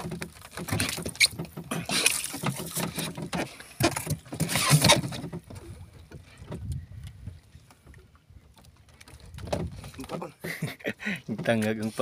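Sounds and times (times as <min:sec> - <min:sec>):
knocks and scrapes on wooden boat: 0:00.0 - 0:08.0, 0:08.9 - 0:12.0.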